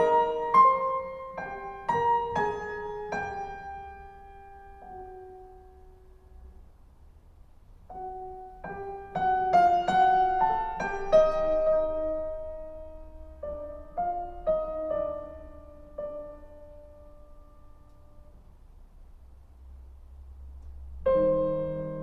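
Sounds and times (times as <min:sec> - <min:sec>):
solo piano: 0:00.0 - 0:22.0.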